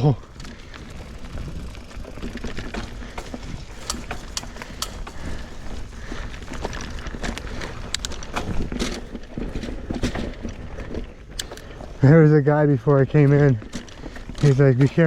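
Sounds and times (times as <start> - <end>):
bike tyres rumbling on dirt: 0.0 - 15.0
chain and frame rattling: 0.0 - 15.0.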